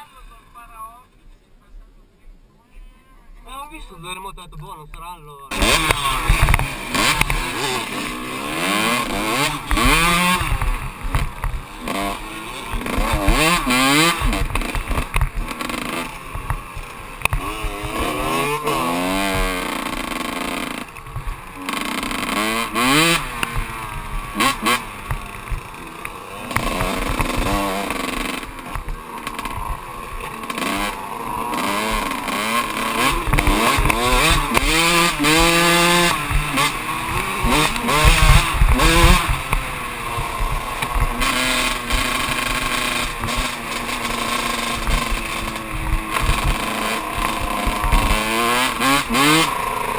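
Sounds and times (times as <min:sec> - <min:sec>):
two-stroke dirt bike engine: 0:05.5 - 0:49.9.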